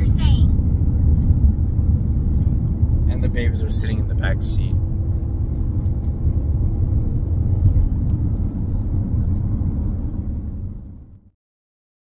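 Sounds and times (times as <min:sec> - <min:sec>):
car interior road rumble: 0:00.0 - 0:11.3.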